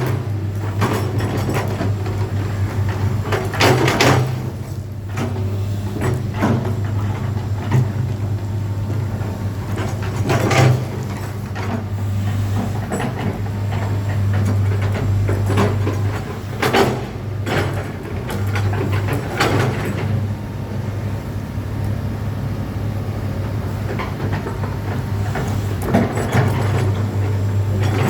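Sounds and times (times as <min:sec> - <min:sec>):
machine clunks and knocks: 0:00.0 - 0:20.4, 0:23.8 - 0:28.0
excavator diesel engine running: 0:00.0 - 0:28.0.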